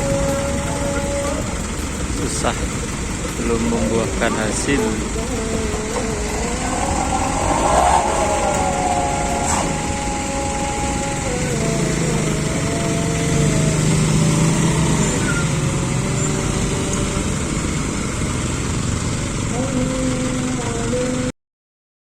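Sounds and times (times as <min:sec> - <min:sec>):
truck engine running under load: 0:00.0 - 0:21.3.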